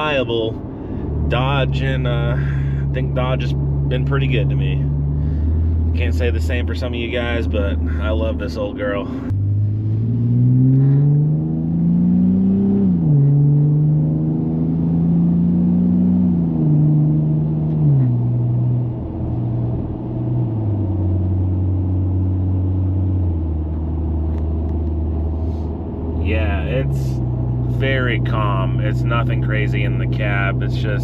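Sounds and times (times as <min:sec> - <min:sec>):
truck engine accelerating: 0:00.0 - 0:31.0.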